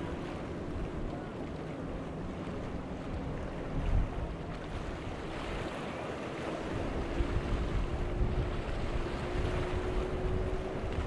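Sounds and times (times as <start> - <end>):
boat engine hum: 0.0 - 11.0
choppy waves: 0.0 - 11.0
wind buffeting microphone: 0.0 - 11.0.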